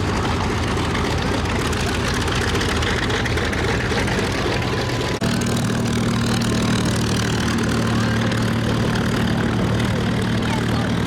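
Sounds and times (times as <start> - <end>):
piston aircraft engine idling: 0.0 - 11.0.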